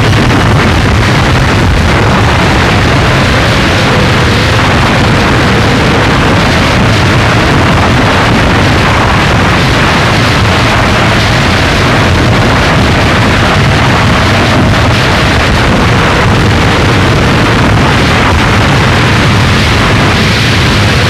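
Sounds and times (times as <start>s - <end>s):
harsh distorted noise music: 0.0s - 21.0s.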